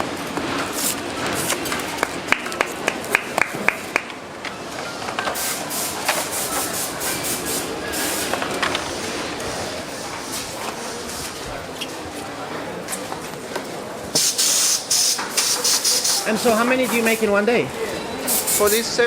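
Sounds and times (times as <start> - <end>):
workshop background din: 0.0 - 19.0.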